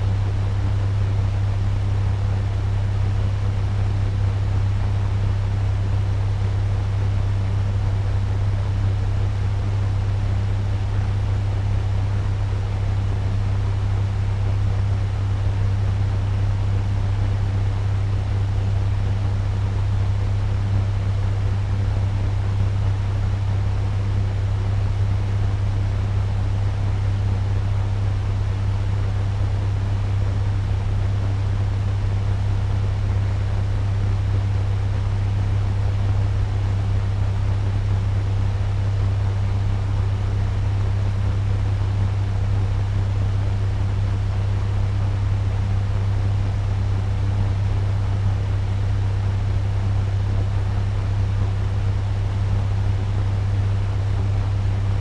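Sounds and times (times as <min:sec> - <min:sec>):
fan blowing air with hum: 0:00.0 - 0:55.0.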